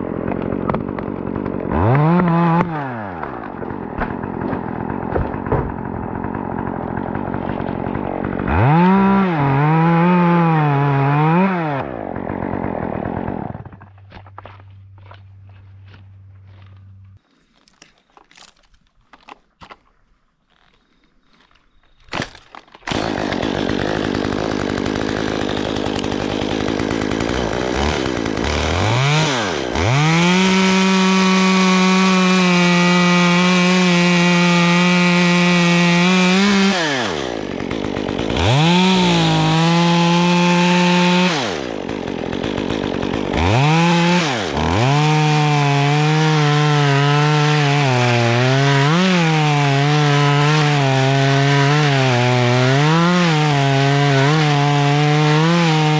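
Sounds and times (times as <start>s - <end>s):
chainsaw revving: 0.0s - 14.0s, 22.2s - 55.9s
chainsaw cutting wood: 0.0s - 19.8s, 20.5s - 55.9s.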